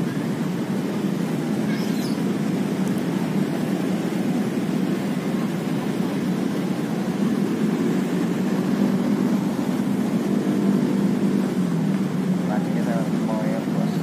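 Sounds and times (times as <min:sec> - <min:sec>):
traffic rumbling over bridge: 0:00.0 - 0:14.0.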